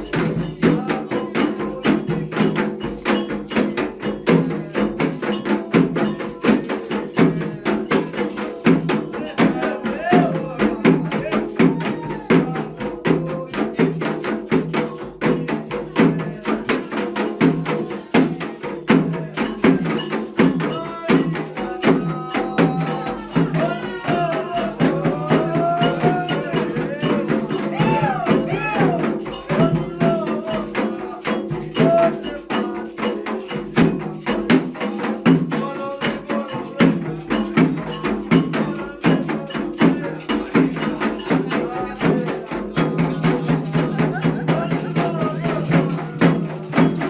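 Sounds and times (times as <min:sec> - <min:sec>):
bright struck percussion: 0:00.0 - 0:47.0
hand drums playing: 0:00.0 - 0:47.0
voices singing a chant: 0:00.0 - 0:47.0.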